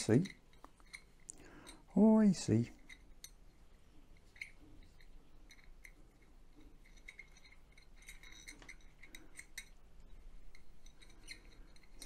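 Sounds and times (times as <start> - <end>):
metal parts clicking and clinking: 0.0 - 12.0.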